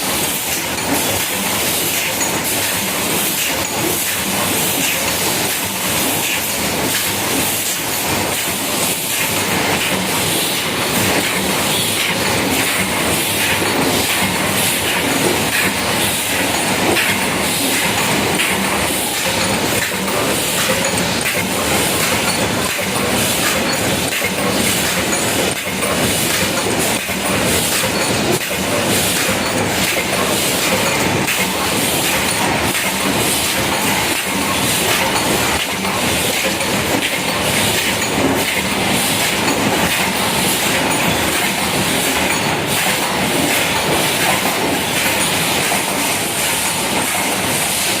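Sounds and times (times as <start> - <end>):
machine mechanical clatter: 0.0 - 48.0.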